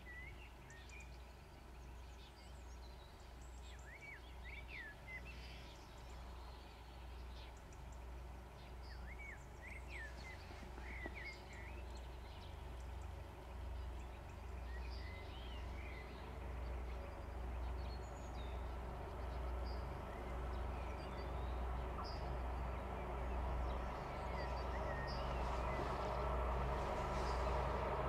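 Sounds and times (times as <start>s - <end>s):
small birds chirping: 0.0s - 28.0s
diesel locomotive rumble: 4.8s - 28.0s.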